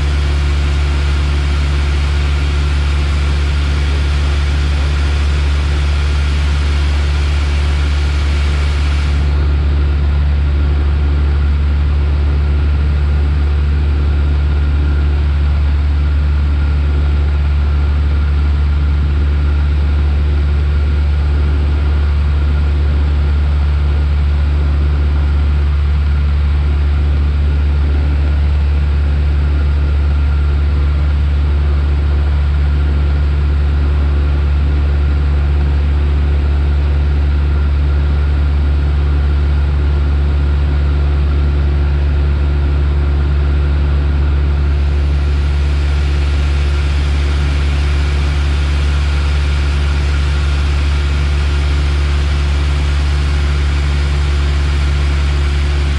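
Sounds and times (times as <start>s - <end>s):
aircraft engine and propeller droning: 0.0s - 55.9s.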